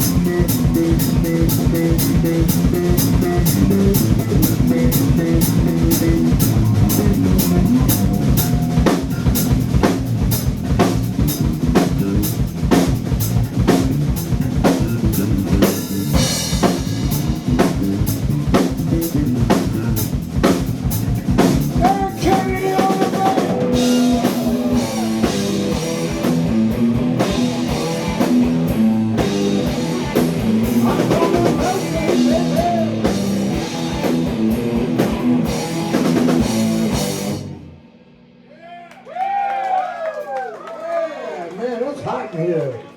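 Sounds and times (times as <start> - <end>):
bending lead guitar line: 0.0 - 37.4
blues-rock band playing loudly: 0.0 - 37.8.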